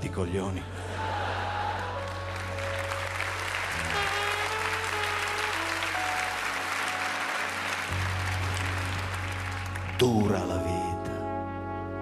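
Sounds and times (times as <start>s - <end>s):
slow background music: 0.0s - 12.0s
audience applauding: 1.0s - 10.6s.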